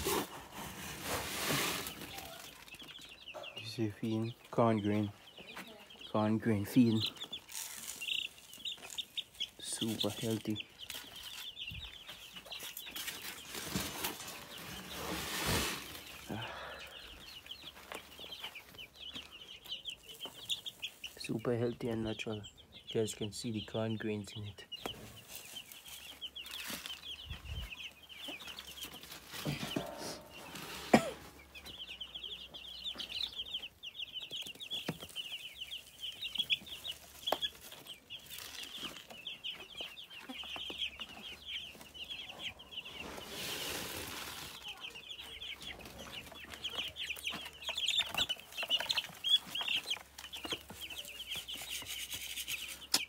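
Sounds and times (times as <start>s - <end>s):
chicks peeping: 0.0s - 53.0s.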